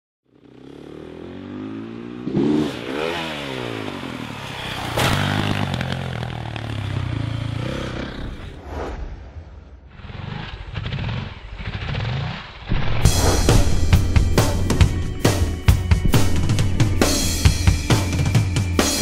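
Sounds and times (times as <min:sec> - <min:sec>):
motorcycle engine revving: 0:00.3 - 0:08.6, 0:09.9 - 0:19.0.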